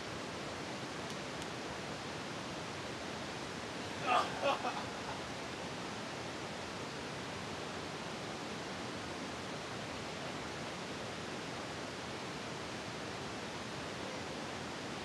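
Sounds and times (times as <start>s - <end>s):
recording hiss: 0.0s - 15.0s.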